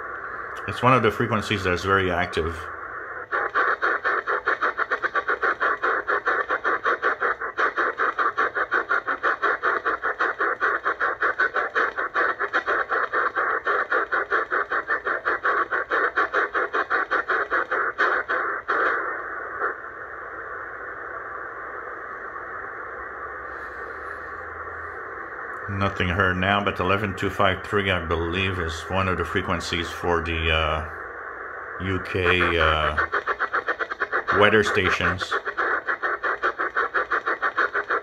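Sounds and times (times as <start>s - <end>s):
pulsing radio static: 0.0s - 38.0s
radio hiss: 0.0s - 38.0s.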